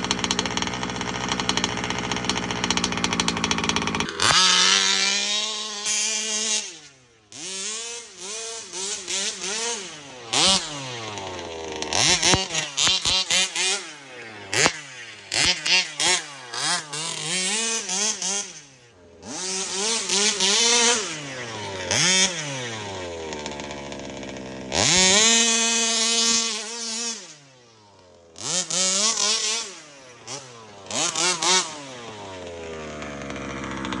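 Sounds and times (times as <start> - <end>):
small two-stroke engine revving: 0.0 - 34.0.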